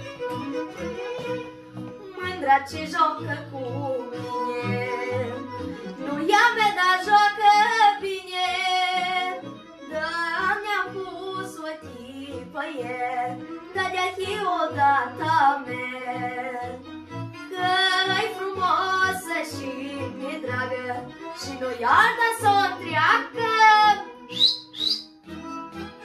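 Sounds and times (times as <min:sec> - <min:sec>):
instrumental accompaniment: 0:00.0 - 0:26.0
boy singing folk song: 0:02.1 - 0:16.8, 0:17.5 - 0:24.1.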